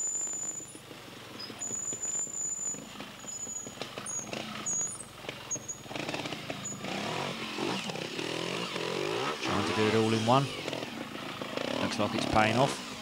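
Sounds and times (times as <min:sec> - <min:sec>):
motorcycle engine revving: 0:01.6 - 0:13.0.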